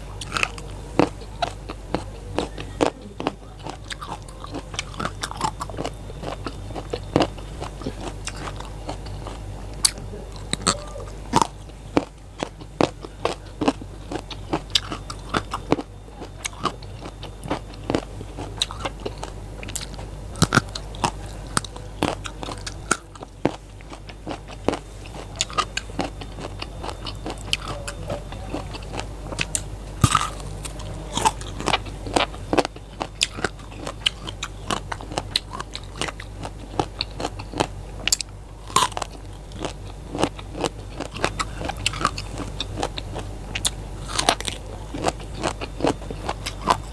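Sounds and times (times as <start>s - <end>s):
crunching raw vegetables: 0.0s - 46.9s
steady low hum: 0.0s - 46.9s.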